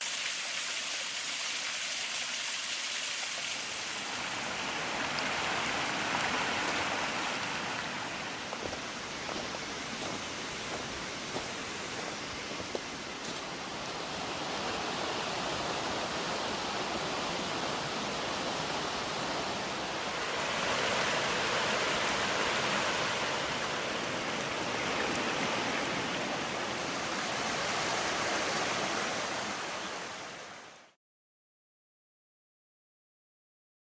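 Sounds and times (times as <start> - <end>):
river water rushing: 1.7 - 30.9.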